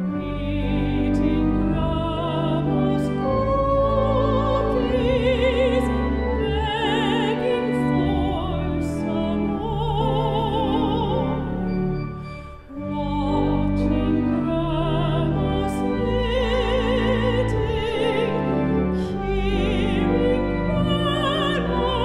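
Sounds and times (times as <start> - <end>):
sustained organ chords: 0.0 - 22.0
woman singing with vibrato: 0.2 - 11.6, 12.7 - 22.0.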